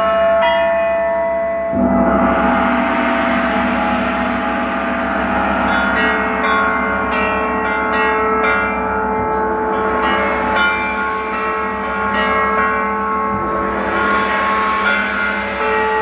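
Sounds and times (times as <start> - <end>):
gong and bells ringing: 0.0 - 16.0.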